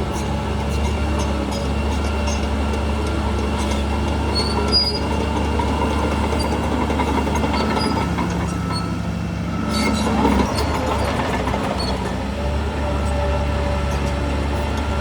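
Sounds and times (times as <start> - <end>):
metallic track squeaks: 0.0 - 12.2
bulldozer diesel engine: 0.0 - 15.0.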